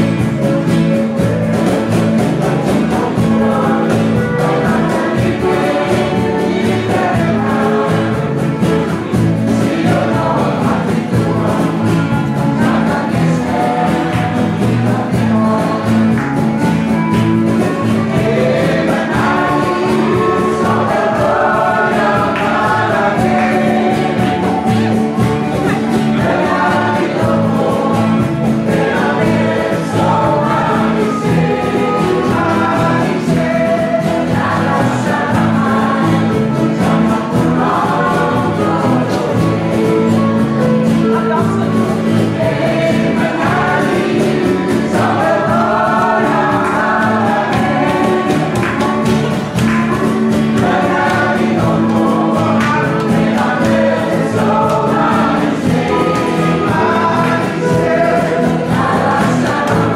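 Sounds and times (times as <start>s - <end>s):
band with guitars and percussion: 0.0s - 59.9s
choir singing: 0.0s - 59.9s.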